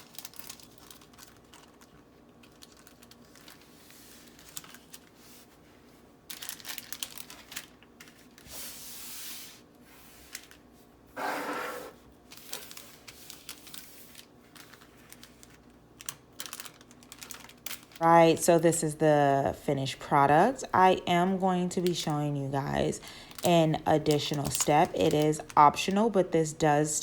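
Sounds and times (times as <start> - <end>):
plastic bags crinkling: 0.0 - 8.4, 12.2 - 26.3.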